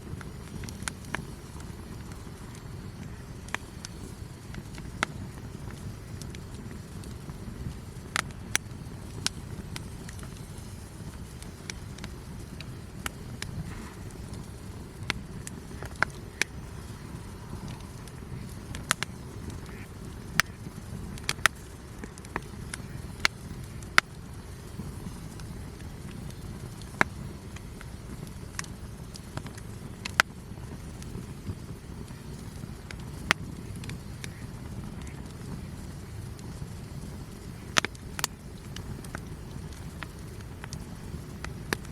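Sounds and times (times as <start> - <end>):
campfire crackling: 0.0 - 41.9
fire pops: 0.0 - 41.9
low steady rumble: 0.0 - 41.9.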